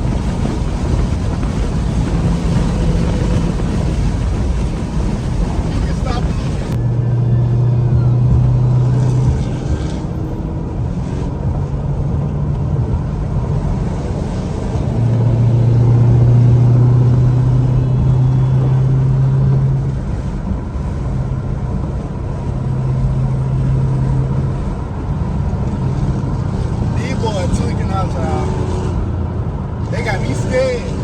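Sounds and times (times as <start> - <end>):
car engine cruising drone: 0.0 - 31.0.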